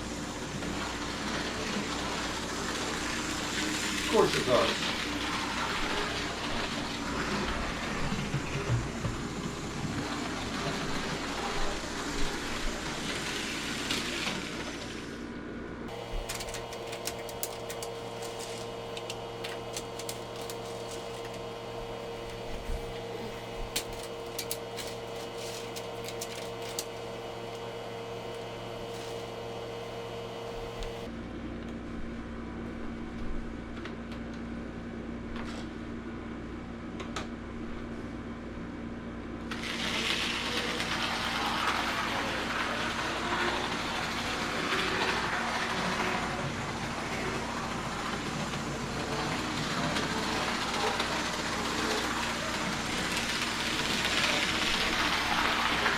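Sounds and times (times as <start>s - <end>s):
model train motor hum: 0.1s - 15.0s, 15.9s - 29.4s, 39.5s - 55.9s.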